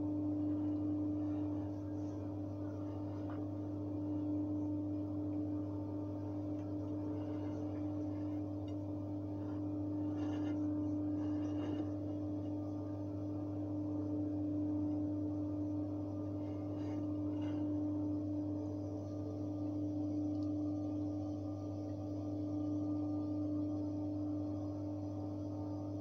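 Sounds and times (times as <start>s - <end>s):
steady droning hum: 0.0s - 26.0s.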